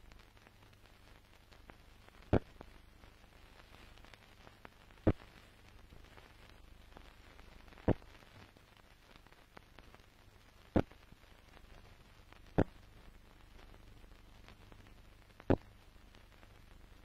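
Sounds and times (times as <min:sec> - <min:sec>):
film soundtrack hiss and crackle: 0:00.0 - 0:17.0.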